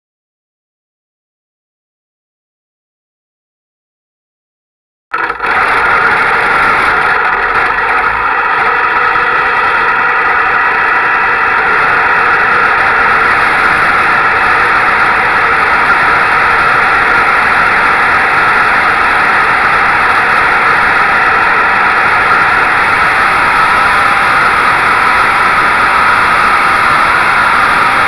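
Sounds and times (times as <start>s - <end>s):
race car engine running steadily: 5.1s - 28.0s.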